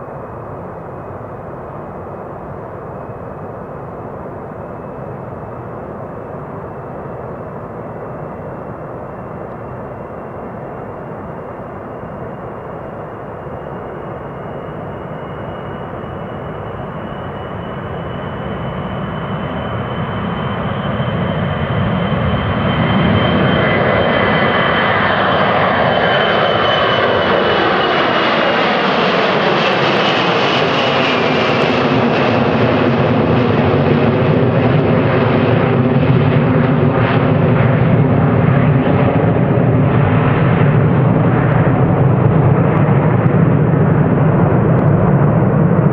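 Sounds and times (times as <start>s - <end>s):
jet engines whining and rushing: 0.0s - 45.9s.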